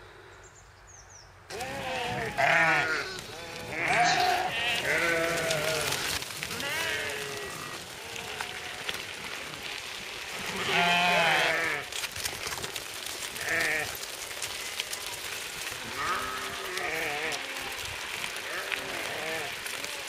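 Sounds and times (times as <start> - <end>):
sheep and goats bleating: 1.5 - 12.0, 13.0 - 20.0.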